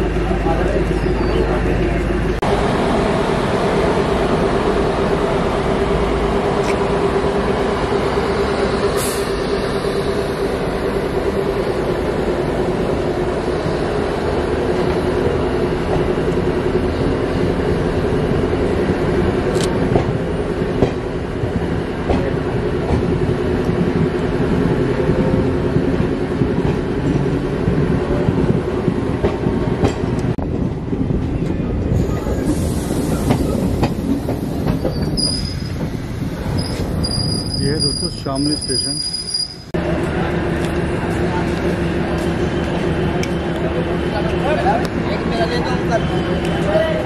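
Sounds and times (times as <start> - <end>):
train wheels rumbling: 0.0 - 47.0.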